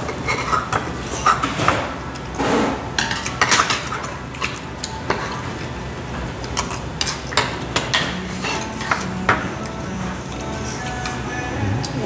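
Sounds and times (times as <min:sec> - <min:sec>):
spoon and chopsticks clinking bowls: 0:00.0 - 0:02.4, 0:03.0 - 0:05.8, 0:06.4 - 0:11.2.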